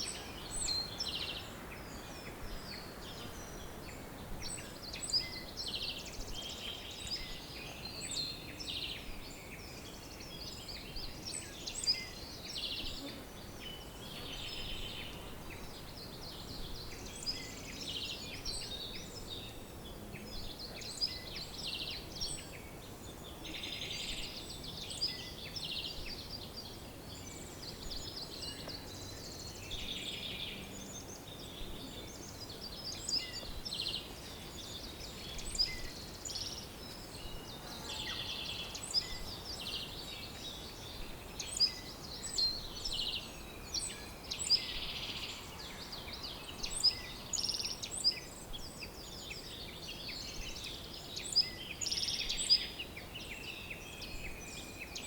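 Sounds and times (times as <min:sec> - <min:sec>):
faint steady background hiss: 0:00.0 - 0:55.0
songbirds chirping and trilling: 0:00.0 - 0:55.0.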